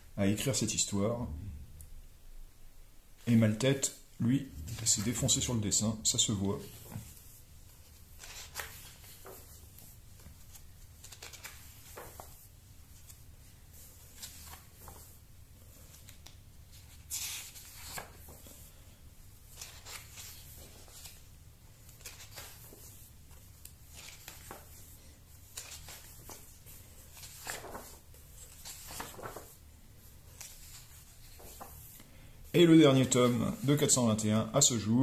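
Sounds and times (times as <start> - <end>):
pages turning: 4.5 - 34.0.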